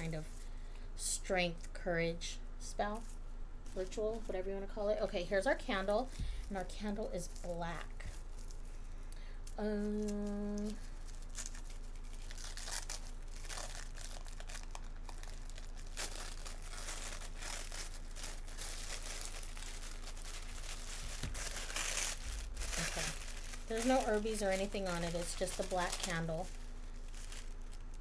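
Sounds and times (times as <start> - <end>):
wrapping rustling and crinkling: 2.6 - 28.0.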